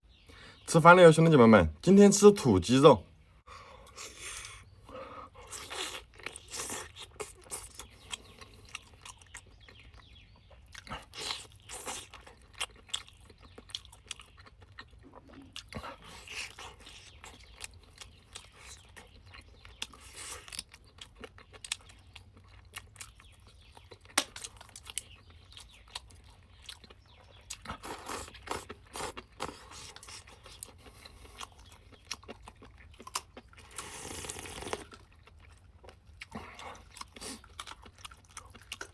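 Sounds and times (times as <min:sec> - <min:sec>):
person chewing and crunching: 0:03.7 - 0:38.9.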